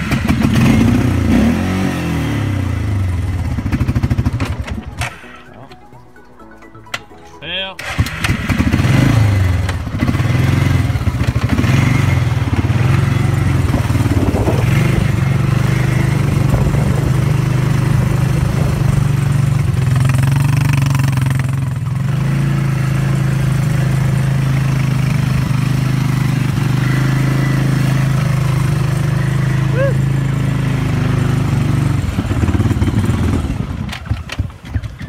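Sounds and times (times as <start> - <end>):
atv engine running under load: 0.0 - 7.2, 7.8 - 35.0.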